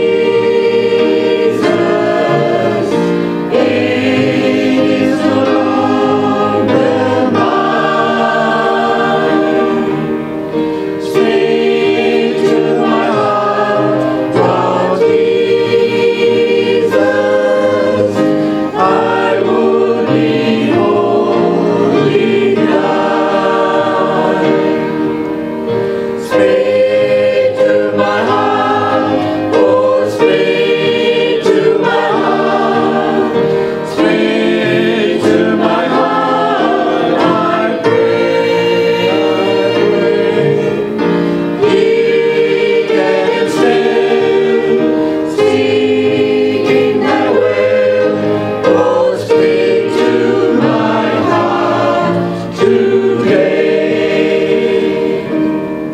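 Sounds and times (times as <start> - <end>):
mixed choir singing a hymn: 0.0 - 55.9.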